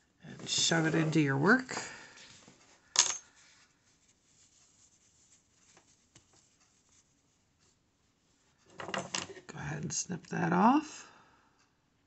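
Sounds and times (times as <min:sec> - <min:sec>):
faint rustling of fabric: 0:00.0 - 0:09.7.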